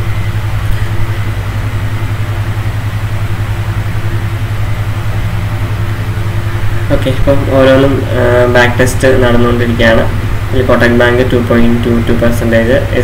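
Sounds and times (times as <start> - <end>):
low droning mechanical hum: 0.0 - 13.0.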